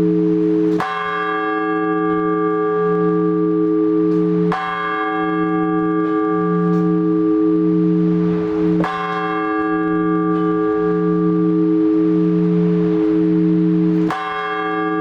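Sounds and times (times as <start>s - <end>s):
large church bell tolling: 0.0s - 15.0s.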